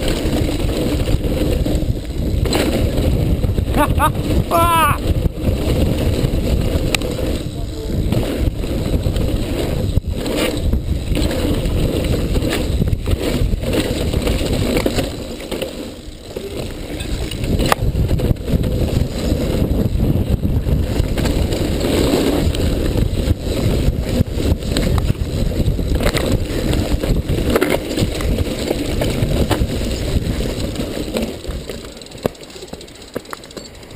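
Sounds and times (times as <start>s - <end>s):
wind buffeting microphone: 0.0s - 15.3s, 16.1s - 32.9s
bike knocking and rattling: 0.0s - 33.9s.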